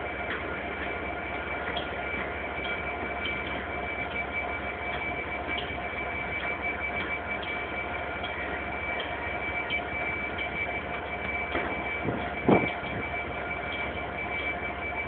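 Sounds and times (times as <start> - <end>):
high whine: 0.0 - 15.0.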